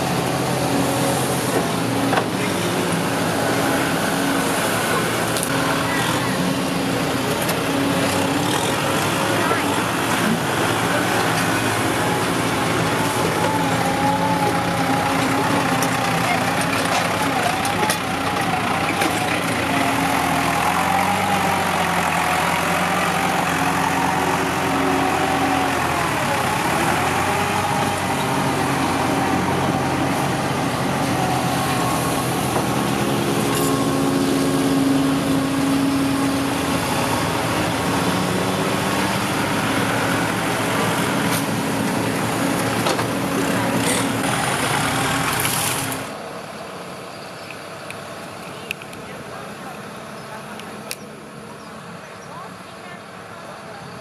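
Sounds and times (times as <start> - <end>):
diesel tractor engines under load: 0.0 - 54.0.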